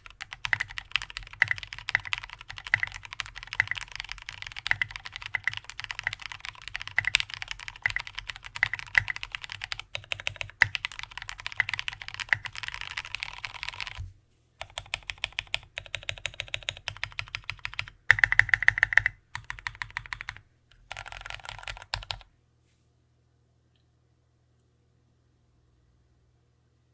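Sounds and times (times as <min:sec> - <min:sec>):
mechanical keyboard typing: 0:00.0 - 0:14.0, 0:14.6 - 0:22.3
repeated presses on stabilized keys: 0:00.0 - 0:22.3.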